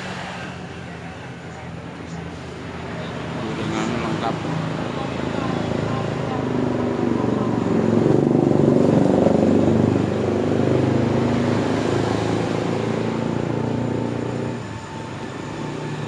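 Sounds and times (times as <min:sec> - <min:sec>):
vehicle engine running: 0:00.8 - 0:16.0.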